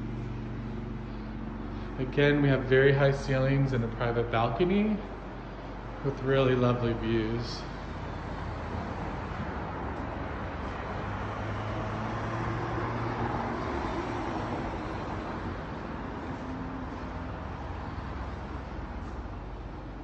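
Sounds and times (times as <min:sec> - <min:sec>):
road traffic: 0:00.0 - 0:20.0
vehicle passing: 0:00.0 - 0:20.0.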